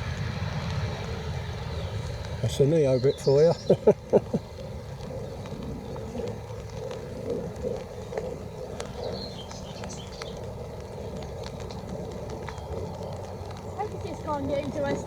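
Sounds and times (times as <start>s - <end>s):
distant jet aircraft rumble: 0.0s - 15.0s
raindrops ticking on umbrella: 0.0s - 15.0s.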